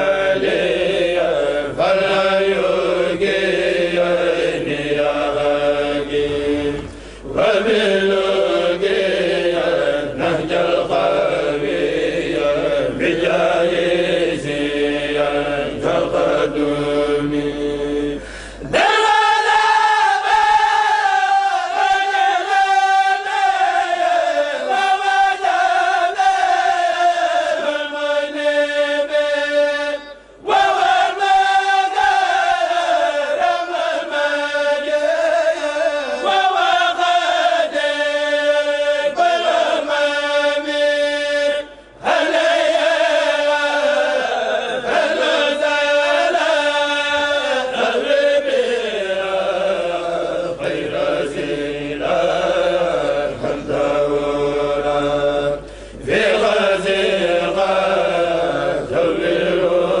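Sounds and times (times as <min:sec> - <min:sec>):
men chanting together: 0:00.0 - 1:00.0.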